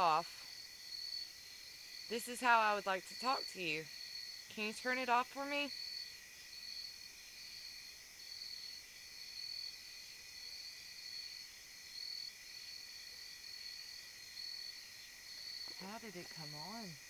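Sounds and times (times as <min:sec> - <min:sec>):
low insect trill: 0:00.0 - 0:17.0.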